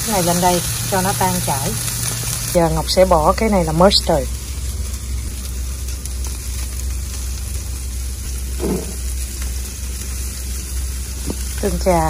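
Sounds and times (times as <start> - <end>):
food sizzling on grill: 0.0 - 12.0
low hum: 0.9 - 11.2.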